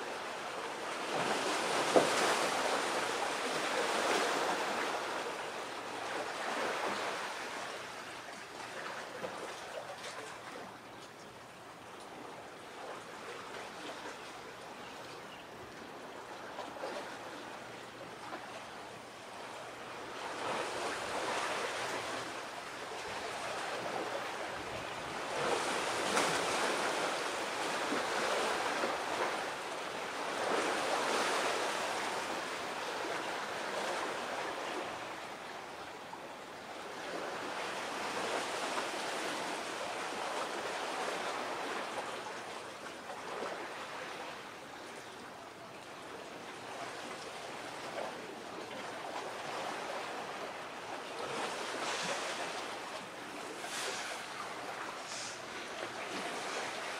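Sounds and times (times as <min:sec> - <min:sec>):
waves breaking: 0:00.0 - 0:11.2, 0:11.8 - 0:56.9.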